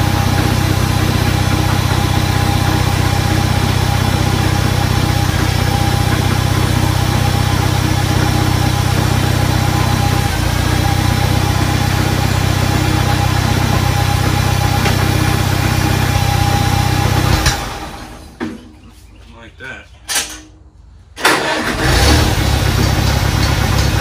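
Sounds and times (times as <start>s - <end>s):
tractor engine idling: 0.0s - 18.6s, 21.2s - 24.0s.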